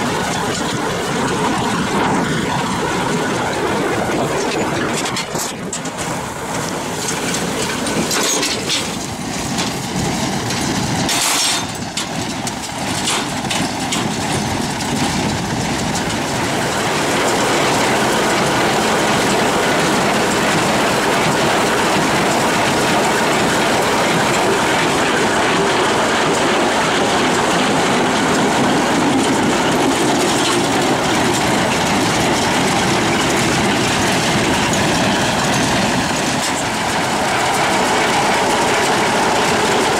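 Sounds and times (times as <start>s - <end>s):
heavy farm machinery clatter: 0.0s - 39.9s.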